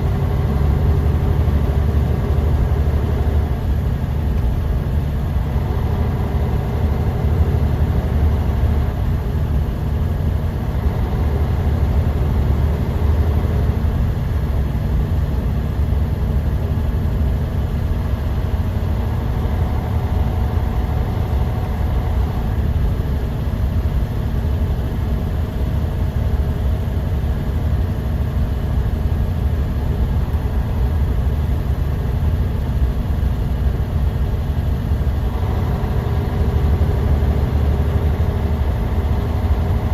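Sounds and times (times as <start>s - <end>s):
bus engine drone: 0.0s - 39.9s
faint steady whines: 0.0s - 39.9s
road noise: 0.0s - 39.9s.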